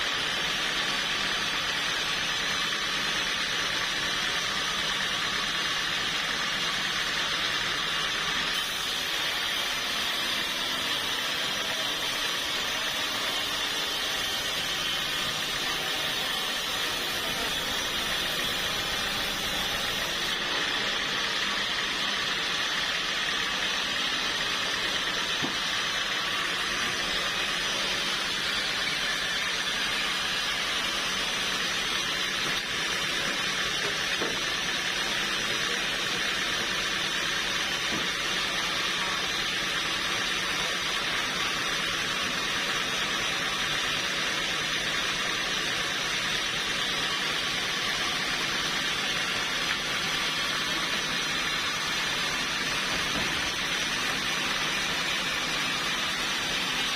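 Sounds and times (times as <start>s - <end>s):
sawmill machinery hissing: 0.0s - 56.9s.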